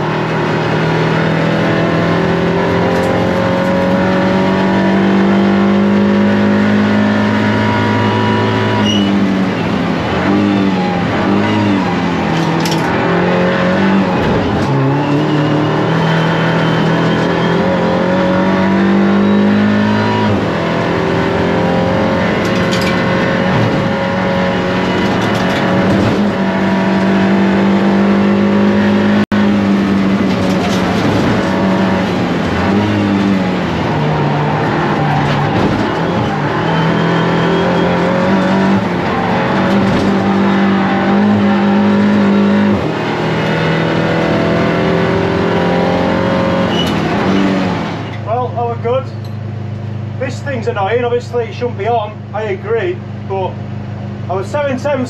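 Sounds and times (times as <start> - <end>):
race car engine accelerating: 0.0 - 50.7.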